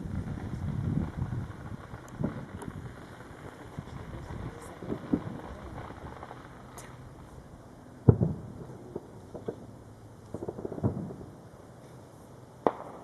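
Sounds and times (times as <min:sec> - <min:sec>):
distant fireworks booming: 0:00.0 - 0:11.7, 0:12.6 - 0:13.0
fireworks pops and crackles: 0:00.0 - 0:13.0.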